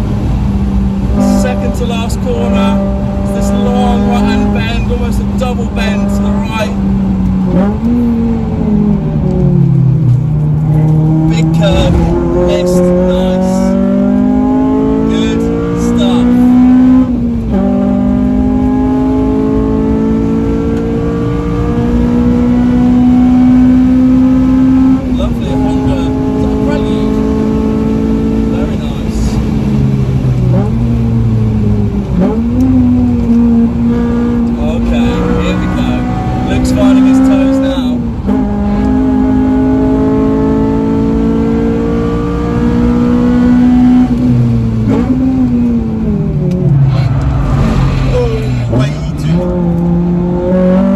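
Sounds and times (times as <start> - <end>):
car engine at full throttle: 0.0 - 50.9.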